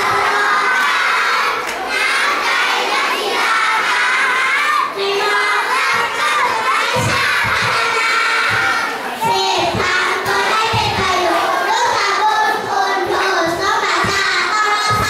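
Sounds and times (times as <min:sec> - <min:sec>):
child singing into a microphone: 0:00.0 - 0:15.0
children singing together: 0:00.0 - 0:15.0.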